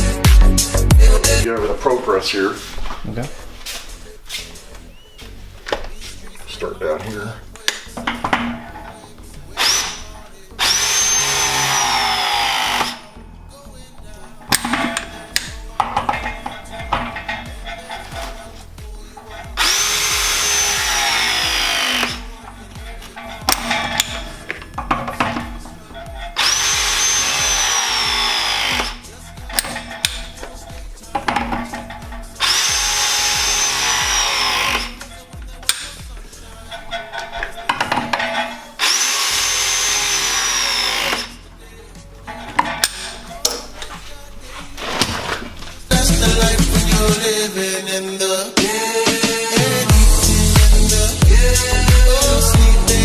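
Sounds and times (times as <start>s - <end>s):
music with thumping beat: 0.0s - 1.8s, 2.6s - 47.6s, 48.5s - 53.0s
power drill whining: 4.0s - 47.3s.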